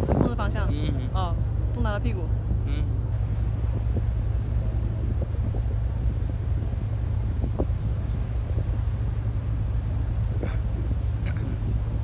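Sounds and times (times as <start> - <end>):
low engine rumble: 0.0 - 12.0
wind noise on microphone: 0.0 - 12.0.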